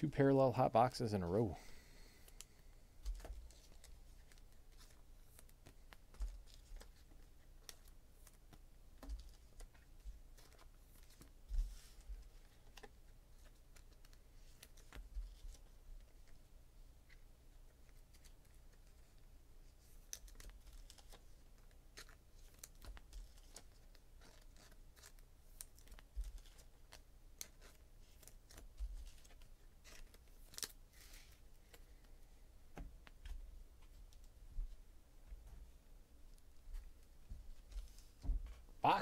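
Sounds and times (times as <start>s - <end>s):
cards rustling and clicking: 2.1s - 34.3s.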